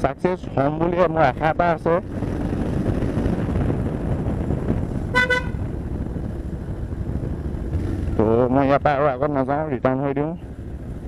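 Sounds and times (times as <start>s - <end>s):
motorcycle engine and road noise: 0.0s - 11.0s.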